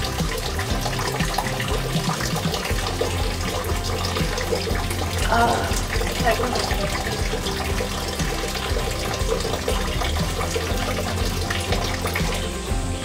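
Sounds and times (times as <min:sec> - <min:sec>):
water running into a basin: 0:00.0 - 0:13.0.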